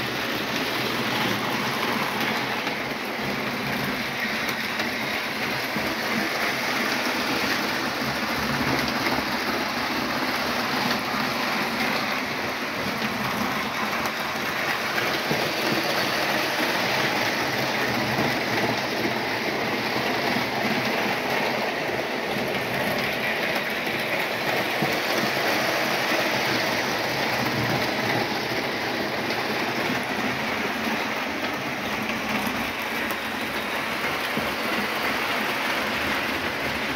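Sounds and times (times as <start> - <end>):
model train wheels rattling: 0.0 - 36.9.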